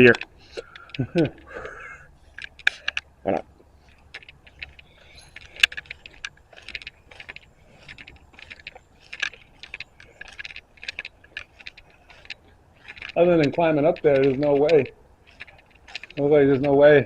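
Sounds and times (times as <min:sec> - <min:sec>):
footsteps crunching over debris: 0:00.0 - 0:17.0.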